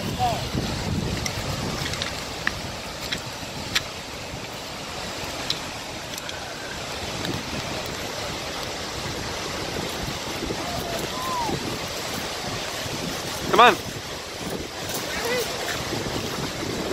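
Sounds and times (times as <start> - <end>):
waterfall rushing: 0.0 - 16.9
wind buffeting microphone: 0.0 - 16.9.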